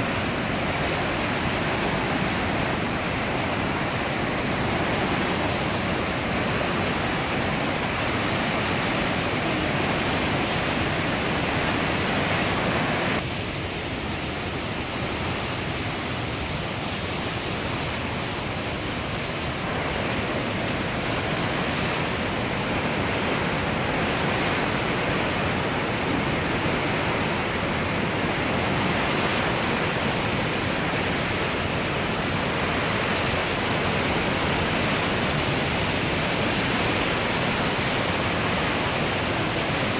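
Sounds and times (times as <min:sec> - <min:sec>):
flooding river rushing: 0:00.0 - 0:39.9.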